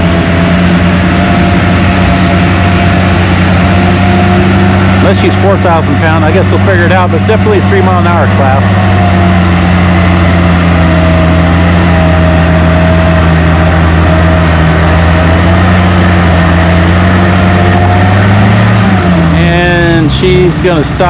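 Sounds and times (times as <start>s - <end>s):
tractor engine running under load: 0.0s - 21.0s.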